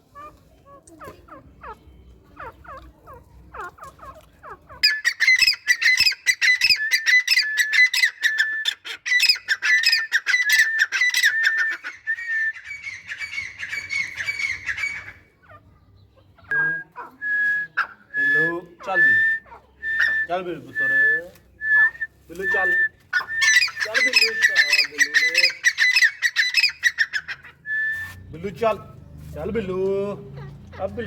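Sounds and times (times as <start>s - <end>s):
francolins calling: 0.0s - 28.8s
harsh squawking bird notes: 1.0s - 15.6s, 16.4s - 21.0s, 21.6s - 28.4s.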